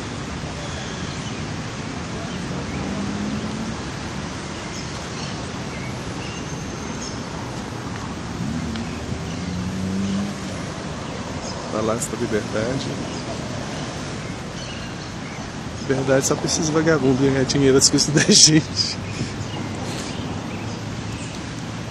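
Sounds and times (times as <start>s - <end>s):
distant road traffic hiss: 0.0s - 21.9s.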